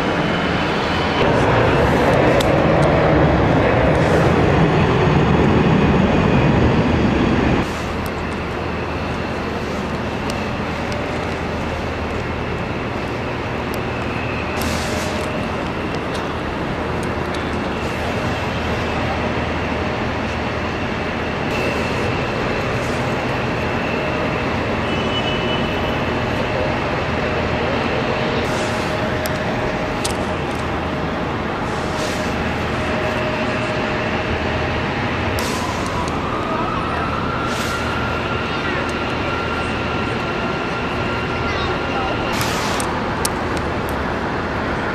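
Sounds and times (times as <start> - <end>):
jet engine whine: 0.0 - 44.9
jet engines roaring: 0.0 - 44.9.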